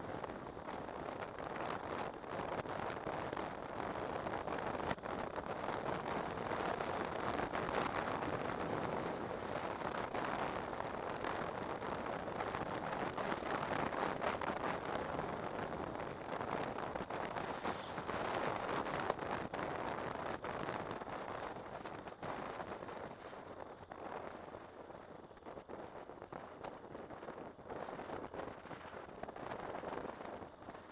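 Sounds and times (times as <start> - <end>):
motorcycle road noise: 0.0 - 30.9
wind rush on microphone: 0.0 - 30.9.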